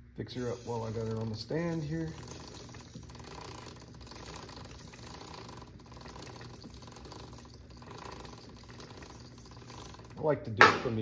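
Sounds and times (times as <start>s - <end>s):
chain lube spray hissing: 0.3s - 10.2s.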